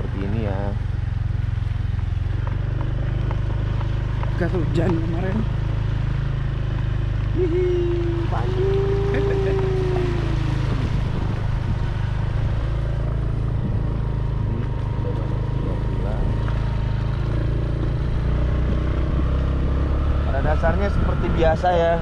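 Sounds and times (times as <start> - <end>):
motorcycle engine droning: 0.0 - 22.0
road noise: 0.0 - 22.0.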